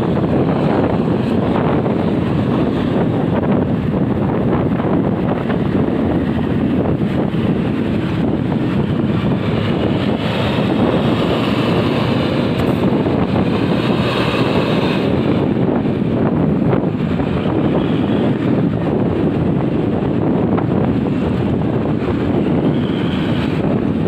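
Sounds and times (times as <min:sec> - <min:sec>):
bus running close by: 0:00.0 - 0:24.0
tyres on road: 0:00.0 - 0:24.0
vehicle engines running: 0:00.0 - 0:24.0
wind on microphone: 0:00.0 - 0:24.0.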